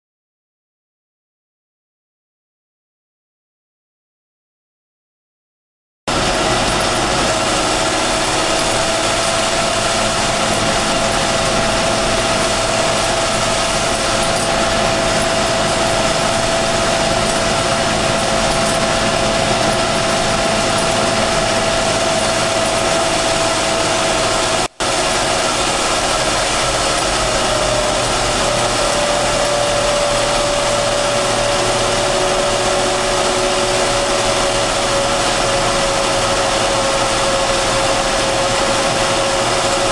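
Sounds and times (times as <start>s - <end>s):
tractor diesel engine under load: 6.1s - 39.9s.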